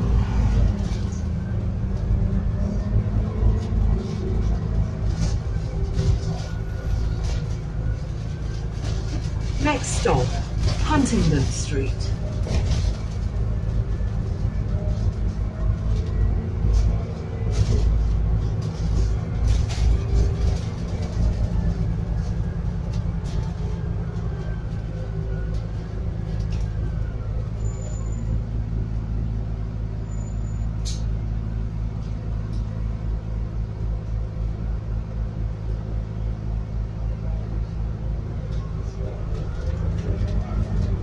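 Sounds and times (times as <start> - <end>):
bus engine droning: 0.0 - 41.0.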